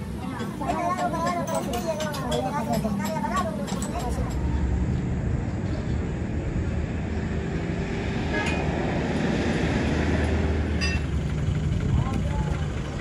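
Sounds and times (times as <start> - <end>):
traffic noise: 0.0 - 13.0
vehicle engine humming: 0.0 - 13.0.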